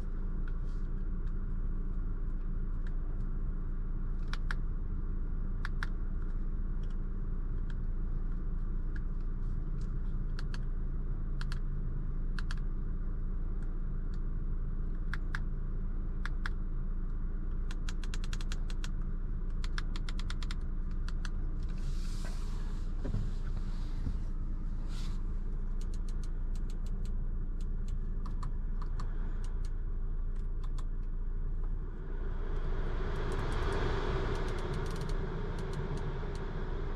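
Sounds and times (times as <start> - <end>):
low cabin hum: 0.0 - 17.8, 20.6 - 36.9.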